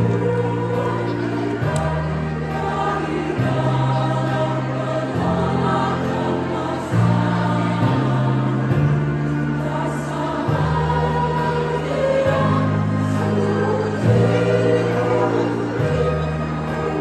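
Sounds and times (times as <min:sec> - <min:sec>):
women's choir singing: 0:00.0 - 0:17.0.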